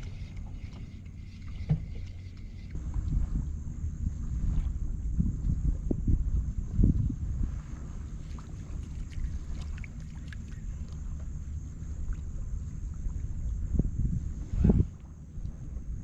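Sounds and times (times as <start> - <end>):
low steady rumble: 0.0 - 16.0
water lapping against boat hull: 0.0 - 16.0.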